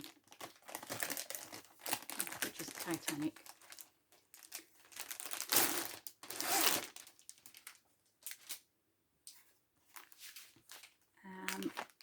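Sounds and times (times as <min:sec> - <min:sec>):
plastic packaging rustling: 0:00.0 - 0:08.7, 0:09.8 - 0:12.0.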